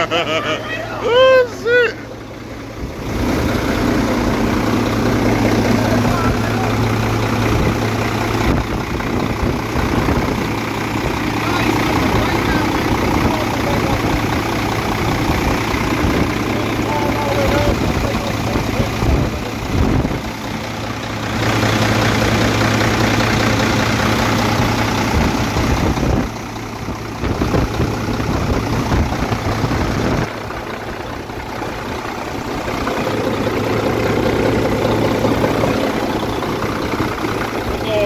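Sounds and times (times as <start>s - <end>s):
truck diesel engine idling: 0.0s - 38.0s.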